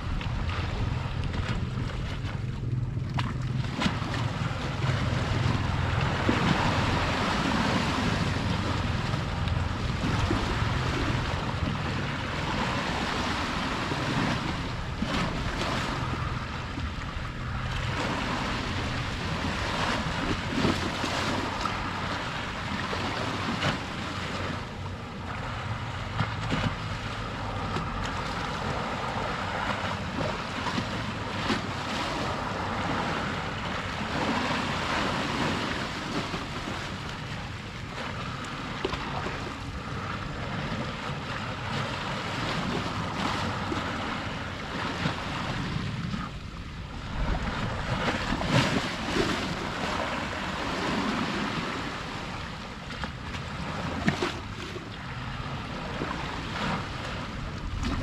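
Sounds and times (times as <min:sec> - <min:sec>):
wind buffeting microphone: 0:00.0 - 0:54.4, 0:55.0 - 0:58.0
sea waves splashing on shore: 0:00.0 - 0:58.0.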